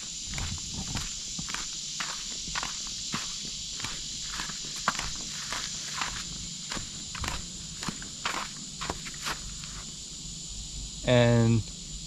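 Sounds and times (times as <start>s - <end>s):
footsteps on dirt and gravel: 0.0s - 9.9s.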